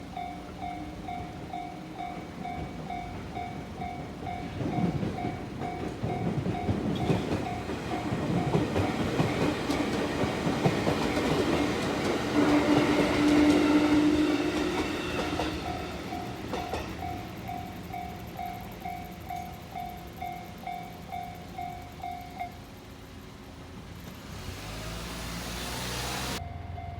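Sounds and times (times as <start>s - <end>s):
railroad crossing bell ringing: 0.0s - 24.1s, 26.3s - 26.9s
train passing: 0.0s - 26.9s.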